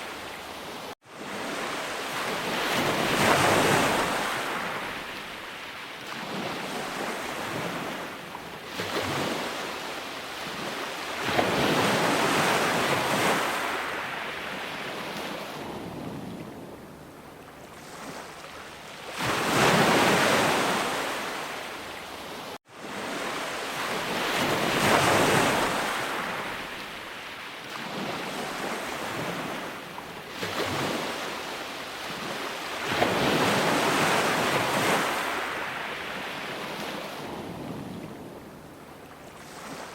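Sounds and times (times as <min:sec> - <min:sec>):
ocean waves breaking ashore: 0:00.0 - 0:39.9.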